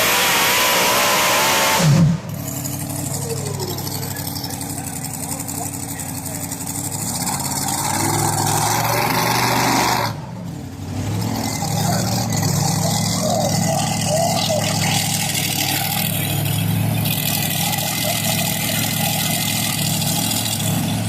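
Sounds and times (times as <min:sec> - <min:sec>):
truck engine revving high: 0:00.0 - 0:21.0.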